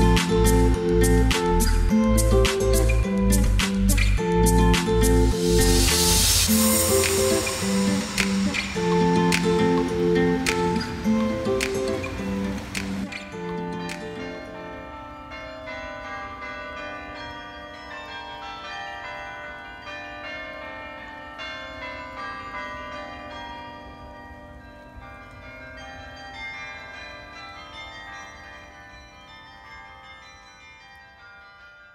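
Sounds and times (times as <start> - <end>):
carillon bells playing tune: 0.0 - 31.9.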